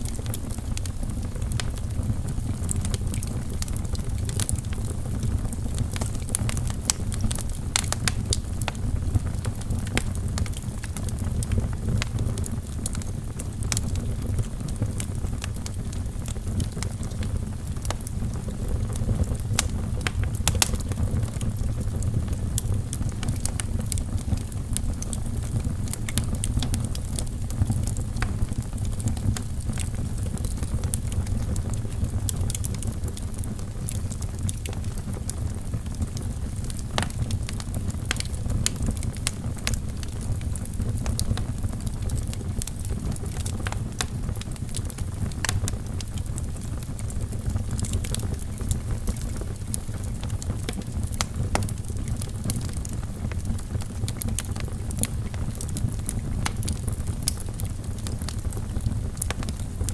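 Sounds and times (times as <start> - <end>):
fire crackles and pops: 0.0 - 59.9
low rumble of flame: 0.0 - 59.9.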